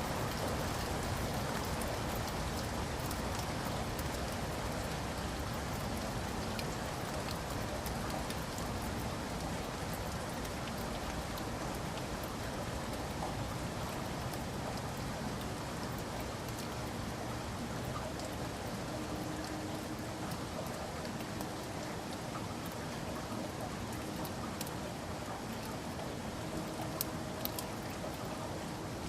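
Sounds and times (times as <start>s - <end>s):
raindrops ticking on a surface: 0.0s - 29.0s
steady rain hiss: 0.0s - 29.0s.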